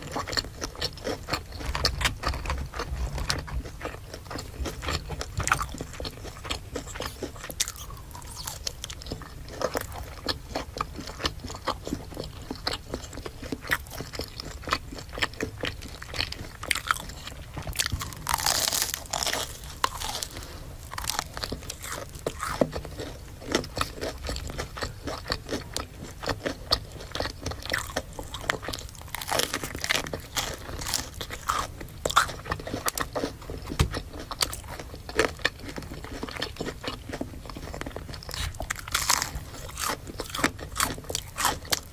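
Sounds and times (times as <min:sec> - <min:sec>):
crunchy bites and chewing: 0:00.0 - 0:41.9.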